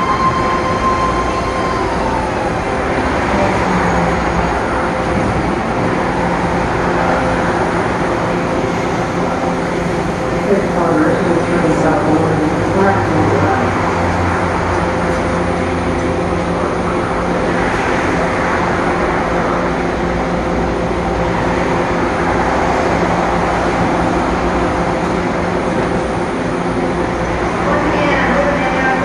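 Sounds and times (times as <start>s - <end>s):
train wheels and motors rumbling: 0.0s - 29.0s.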